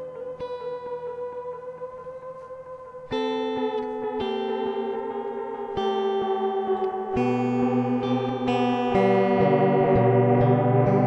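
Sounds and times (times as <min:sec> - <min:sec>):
electric guitar chords with delay: 0:00.0 - 0:11.0.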